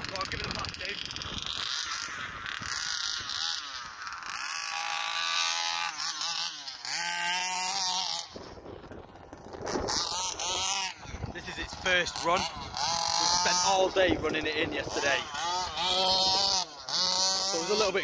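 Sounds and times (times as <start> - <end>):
two-stroke engine revving: 0.0 - 18.0.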